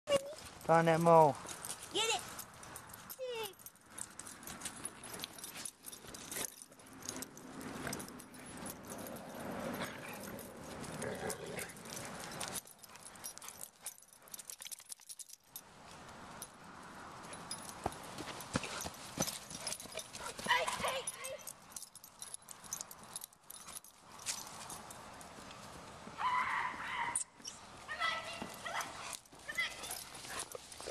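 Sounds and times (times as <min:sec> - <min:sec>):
dogs digging in dry dirt: 0:00.1 - 0:30.9.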